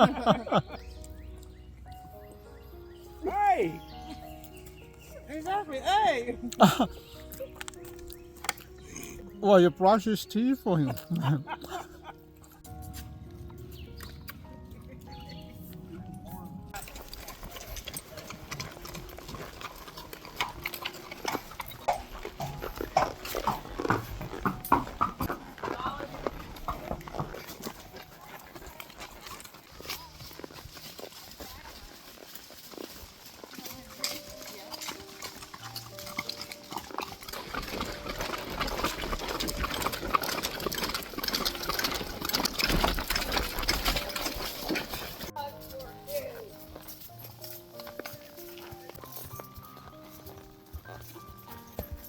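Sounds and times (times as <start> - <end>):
horse hooves clopping: 0.0 - 52.0.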